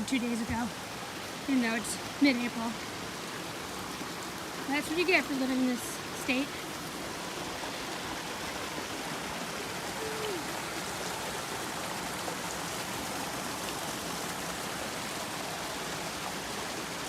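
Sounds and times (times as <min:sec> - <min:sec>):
brook water rushing: 0:00.0 - 0:17.0.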